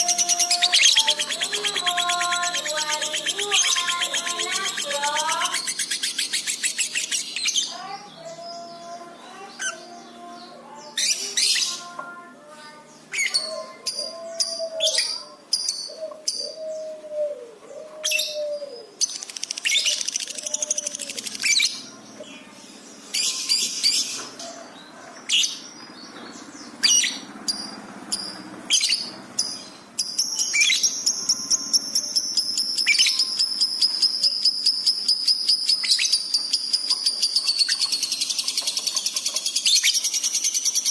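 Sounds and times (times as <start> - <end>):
lovebird singing: 0.0 - 40.9.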